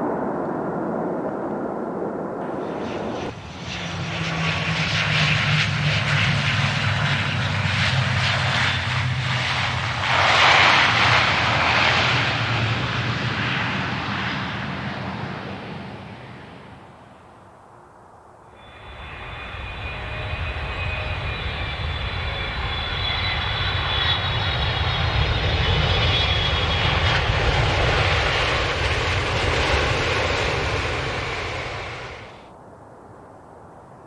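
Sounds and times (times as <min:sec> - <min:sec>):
airplane engine whining: 0:02.4 - 0:17.4, 0:18.5 - 0:32.5.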